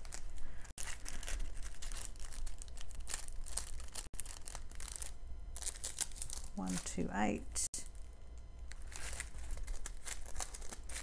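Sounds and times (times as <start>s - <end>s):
plastic bags rustling: 0.0s - 7.1s, 8.7s - 11.0s.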